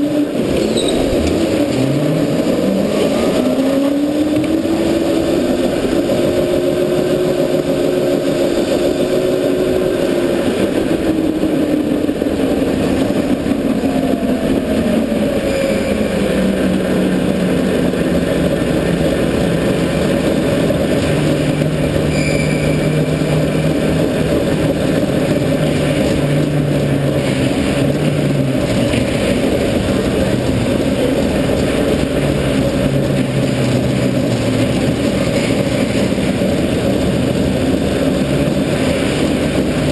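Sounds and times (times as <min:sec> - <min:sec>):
go-kart motor running: 0:00.0 - 0:39.9.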